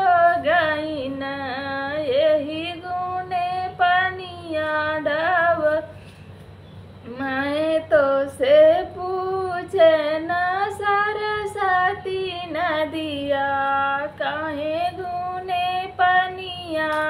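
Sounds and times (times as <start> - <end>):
woman singing unaccompanied: 0.0 - 6.0, 7.0 - 17.0.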